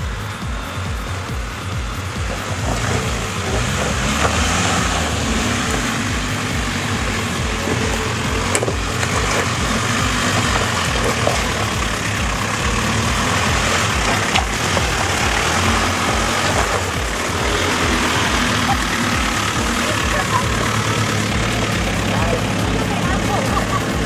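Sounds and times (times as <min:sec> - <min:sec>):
engine low throb: 0:00.0 - 0:24.0.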